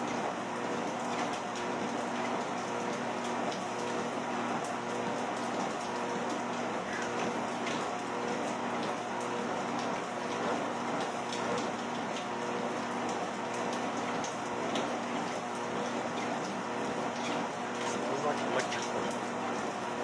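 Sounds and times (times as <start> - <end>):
treadmill belt noise: 0.0 - 20.0
treadmill motor hum: 0.0 - 20.0
rain falling: 0.8 - 20.0.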